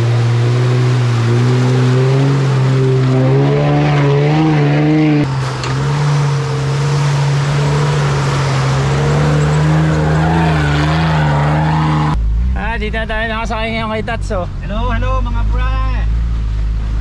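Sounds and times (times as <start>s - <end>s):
off-road vehicle engine droning: 0.0s - 17.0s.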